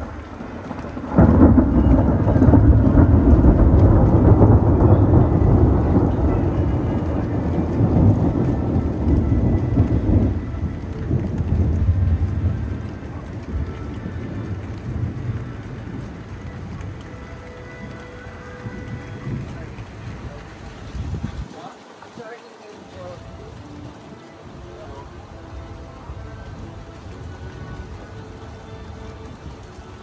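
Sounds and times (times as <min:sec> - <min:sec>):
thunder clap and rumble: 0:00.0 - 0:21.5, 0:22.9 - 0:30.0.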